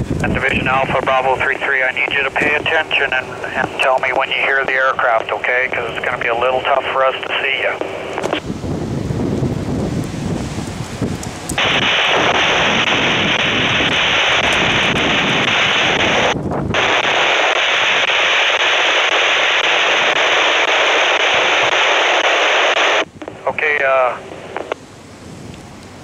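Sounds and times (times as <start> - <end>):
wind rumbling on microphone: 0.0 - 26.0
radio static hiss: 0.2 - 8.4, 11.6 - 24.8.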